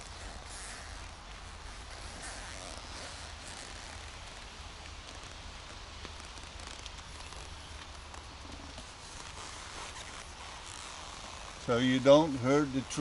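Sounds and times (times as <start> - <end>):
rustles: 0.0 - 13.0.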